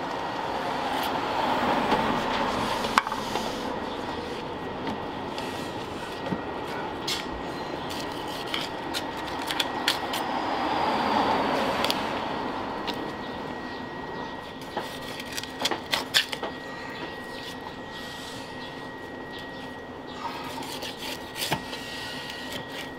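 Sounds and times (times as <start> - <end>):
steady background noise: 0.0 - 22.9.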